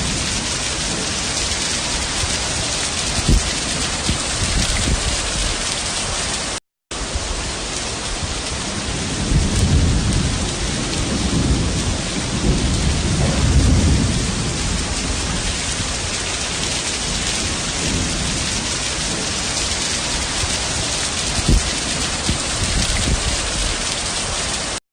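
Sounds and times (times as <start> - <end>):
low rumble of thunder: 0.0 - 6.1, 7.0 - 24.8
heavy rain pouring: 0.0 - 24.8.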